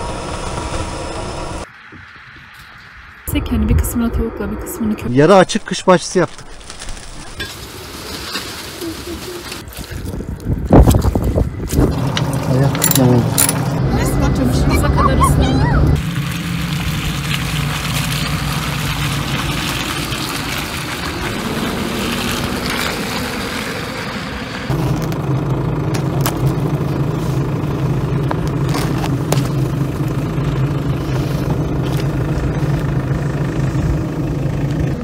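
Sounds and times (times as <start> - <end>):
low engine hum: 0.0 - 2.2, 7.7 - 35.0
truck driving noise: 0.0 - 5.4, 7.4 - 35.0.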